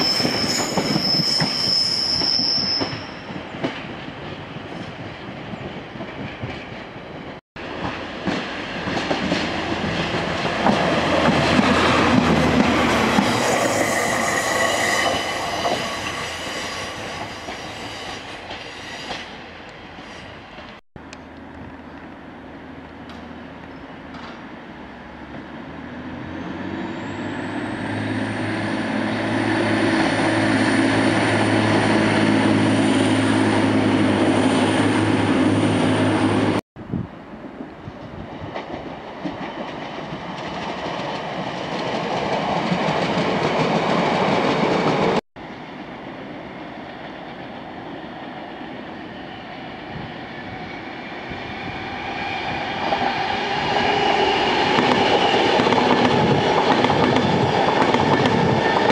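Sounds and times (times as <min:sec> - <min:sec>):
train hum and whine: 0:00.0 - 0:58.9
train rumble: 0:02.8 - 0:45.2, 0:49.8 - 0:58.9.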